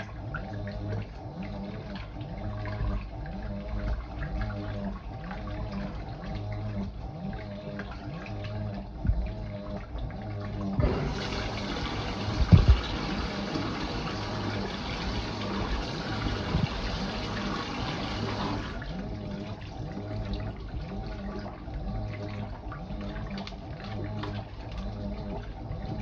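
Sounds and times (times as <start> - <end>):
washing machine agitating: 0.0 - 26.0
water pouring into drum: 0.0 - 26.0.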